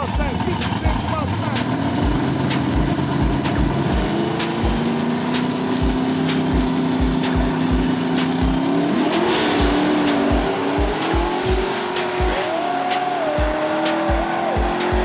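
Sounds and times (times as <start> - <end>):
drag car engines idling: 0.0 - 15.0.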